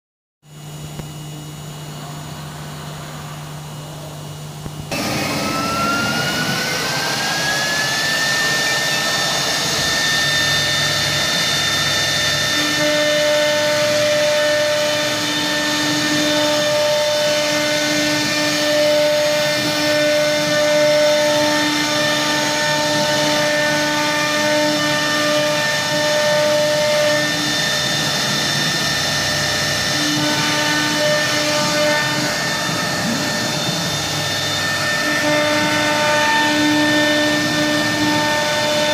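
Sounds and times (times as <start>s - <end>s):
cnc router humming: 0.5s - 38.9s
steady tones: 0.7s - 21.0s, 21.8s - 38.9s
spindle whining: 1.8s - 38.9s.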